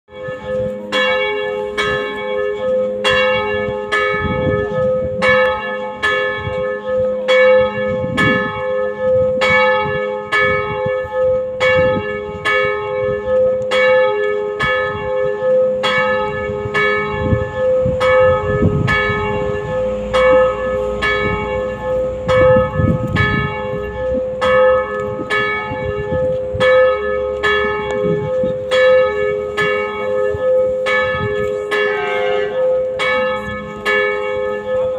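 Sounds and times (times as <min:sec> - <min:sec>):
church bells tolling: 0:00.1 - 0:34.9.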